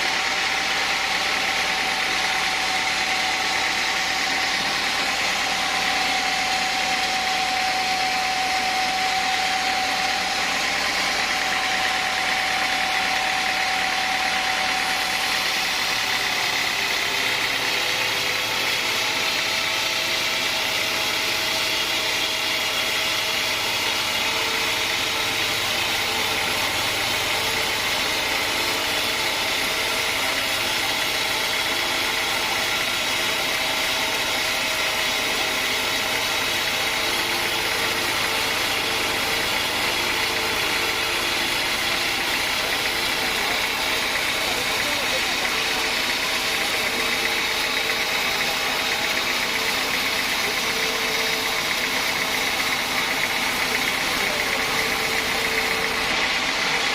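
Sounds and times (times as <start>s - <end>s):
sawmill saw cutting wood: 0.0s - 56.9s.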